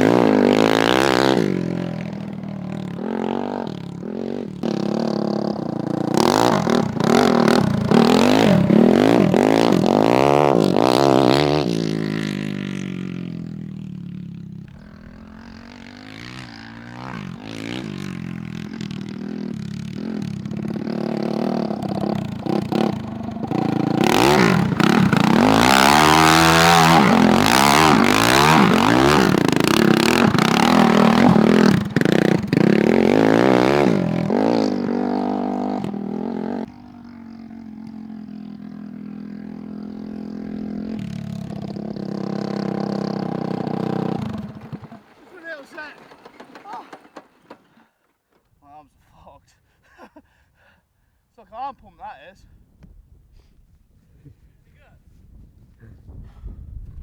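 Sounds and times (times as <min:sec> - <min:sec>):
go-kart engine revving: 0:00.0 - 0:48.4.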